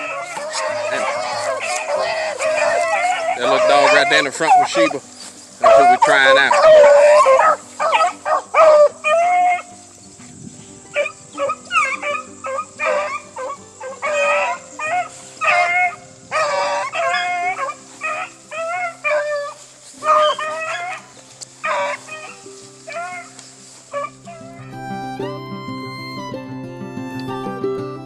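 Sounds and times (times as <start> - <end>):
hounds baying: 0.0 - 10.3, 10.9 - 24.9.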